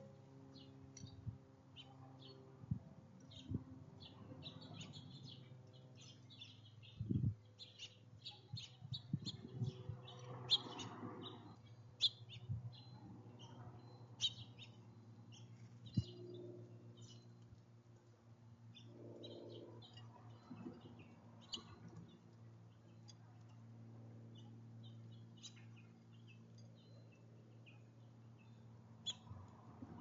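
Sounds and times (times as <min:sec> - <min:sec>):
small songbirds chirping: 0:03.2 - 0:17.6, 0:18.6 - 0:23.6, 0:24.2 - 0:30.0.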